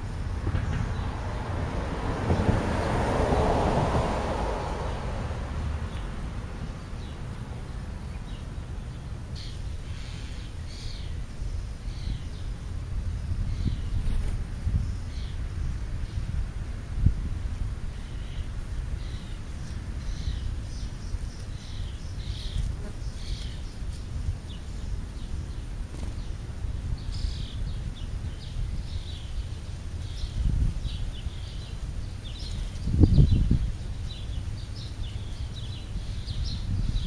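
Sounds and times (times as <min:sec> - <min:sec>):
small birds chirping: 0:05.8 - 0:37.0.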